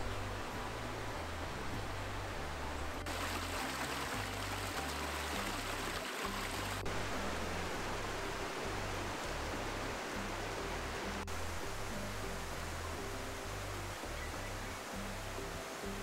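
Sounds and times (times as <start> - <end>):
creek rushing over rocks: 0.0 - 16.0.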